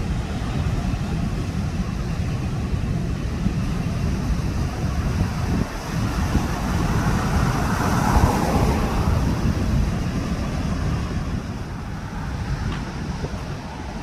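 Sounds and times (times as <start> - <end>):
sea waves washing on beach: 0.0 - 14.0
wind buffeting microphone: 0.0 - 14.0.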